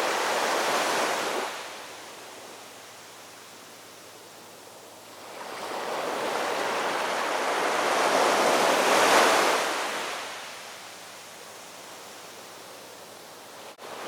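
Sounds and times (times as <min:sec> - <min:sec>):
ocean waves washing ashore: 0:00.0 - 0:14.0.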